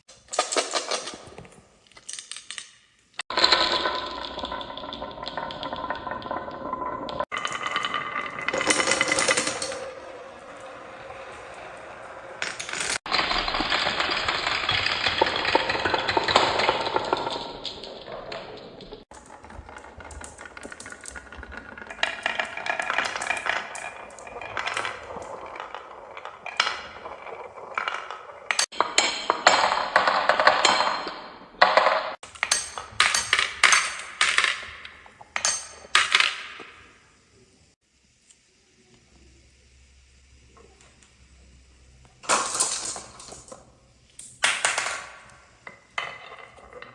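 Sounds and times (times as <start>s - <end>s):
marbles rolling and clattering: 0.2s - 37.1s, 42.2s - 46.9s.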